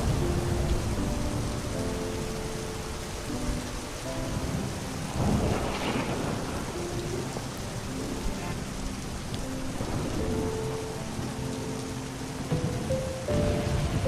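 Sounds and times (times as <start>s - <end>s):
steady rain hissing: 0.0s - 14.0s
thunder rolling: 0.0s - 14.0s.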